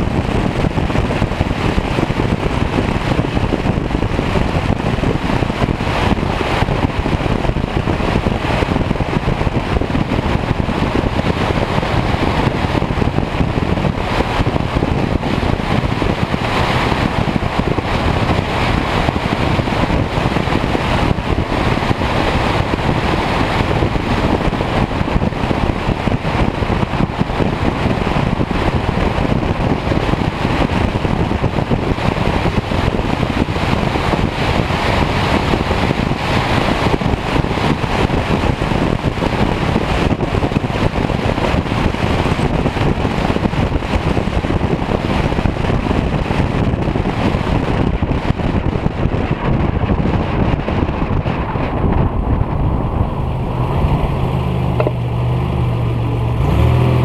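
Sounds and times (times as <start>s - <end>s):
road and tyre noise: 0.0s - 57.0s
wind rush over microphone: 0.0s - 57.0s.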